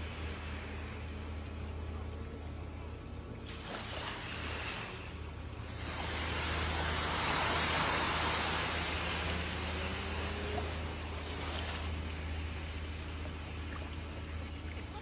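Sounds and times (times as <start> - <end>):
ocean waves breaking: 0.0 - 15.0
steady low hum: 0.0 - 15.0.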